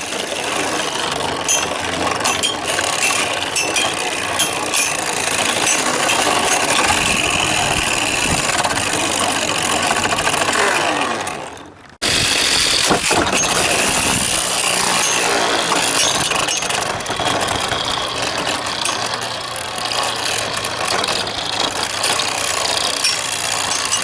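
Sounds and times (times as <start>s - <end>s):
spinning tops whirring: 0.0s - 24.0s.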